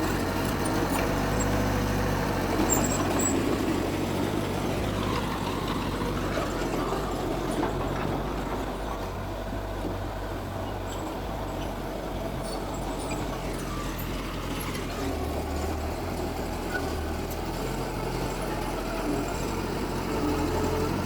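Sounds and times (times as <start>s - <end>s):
heavy diesel machinery running: 0.0s - 21.0s.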